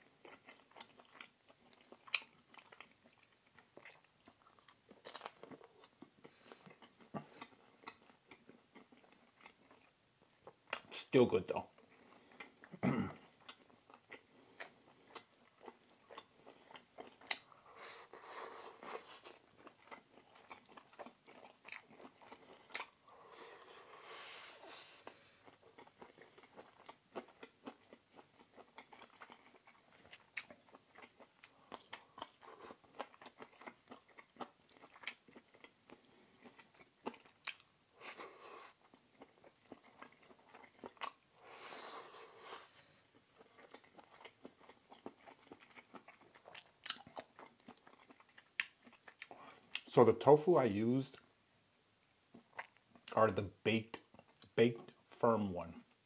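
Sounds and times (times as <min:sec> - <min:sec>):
person chewing food: 0:00.0 - 0:10.9, 0:11.7 - 0:49.9, 0:52.3 - 0:53.3, 0:53.9 - 0:55.0
crunching food: 0:00.0 - 0:11.0, 0:11.8 - 0:49.9.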